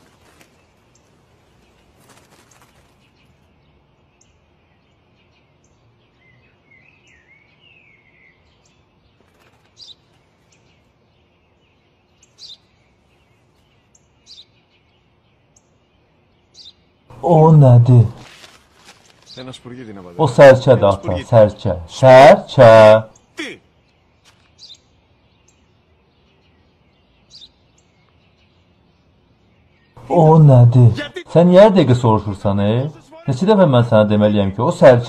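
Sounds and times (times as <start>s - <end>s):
faint sparrow chirping: 0.0s - 35.0s.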